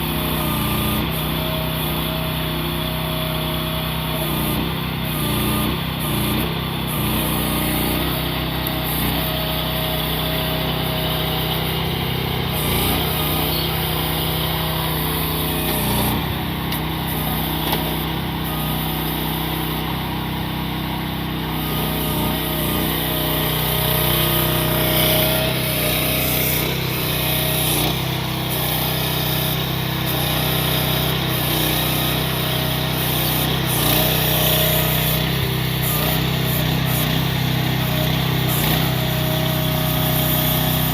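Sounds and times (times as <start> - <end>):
excavator engine running: 0.0 - 40.9.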